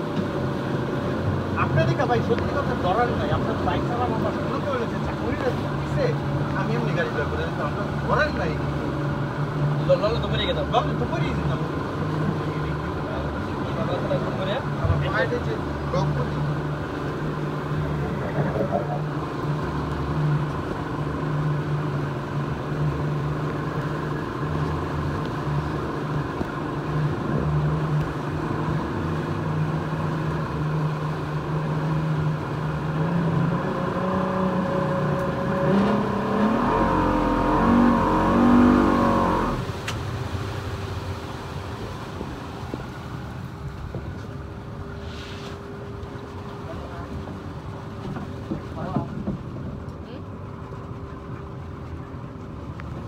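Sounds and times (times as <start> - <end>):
outboard engine running hard: 0.0 - 53.0
rushing water from wake: 0.0 - 53.0.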